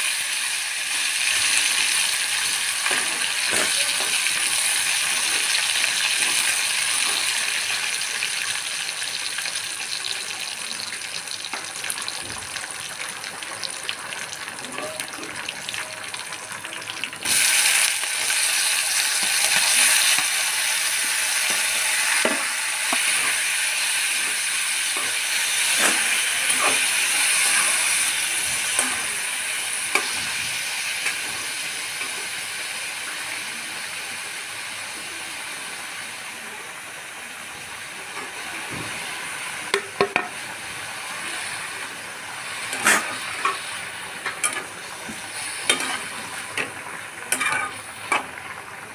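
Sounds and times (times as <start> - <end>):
tomatoes sizzling in hot oil: 0.0 - 48.9.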